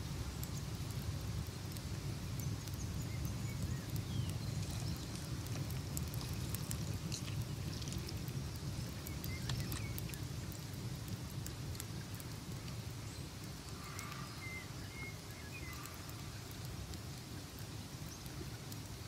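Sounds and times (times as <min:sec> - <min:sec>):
fire crackling: 0:00.0 - 0:19.0
log fire low rumble: 0:00.0 - 0:19.0.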